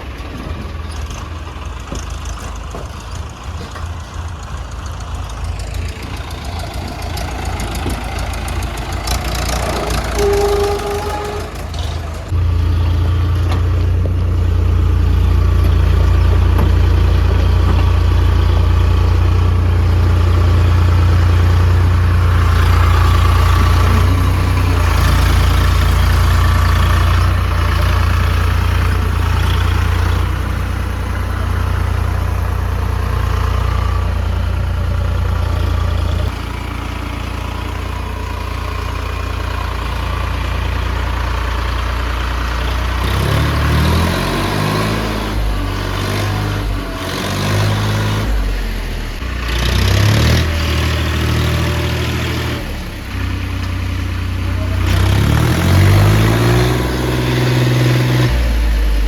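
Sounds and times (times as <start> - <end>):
diesel engine running and revving: 0.0 - 59.0.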